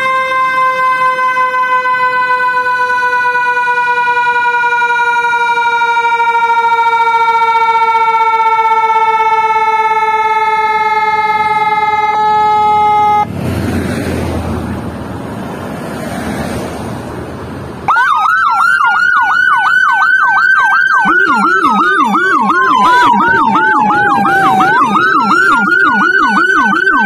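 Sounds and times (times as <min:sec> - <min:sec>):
electronic siren steady tone: 0:00.0 - 0:13.3, 0:17.9 - 0:27.0
siren fast yelp: 0:00.0 - 0:13.3, 0:17.9 - 0:27.0
road traffic rumbling: 0:00.0 - 0:27.0.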